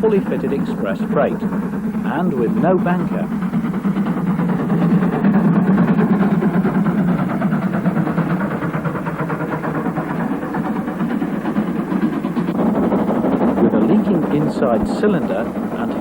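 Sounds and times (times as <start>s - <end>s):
steam locomotive passing: 0.0s - 16.0s.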